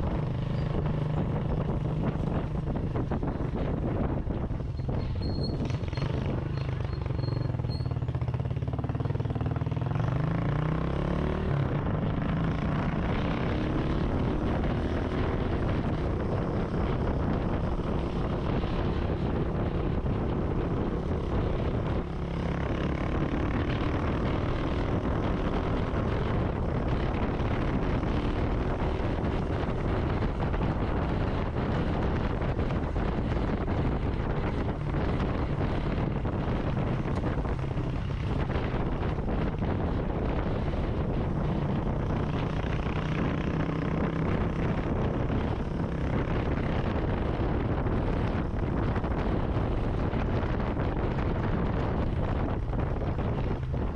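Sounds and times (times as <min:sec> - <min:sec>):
motorcycle engine accelerating: 0:00.0 - 0:53.9
wind noise: 0:00.0 - 0:53.9.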